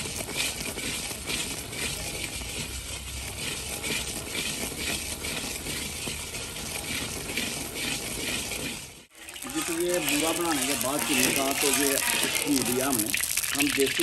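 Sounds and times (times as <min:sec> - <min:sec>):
foaming syrup fizzing: 0:00.0 - 0:14.0
wooden spatula scraping iron pan: 0:00.0 - 0:14.0.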